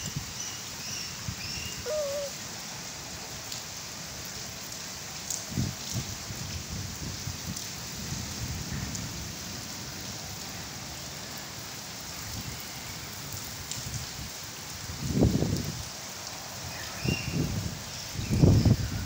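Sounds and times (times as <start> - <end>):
rain on concrete roof: 0.0 - 19.0.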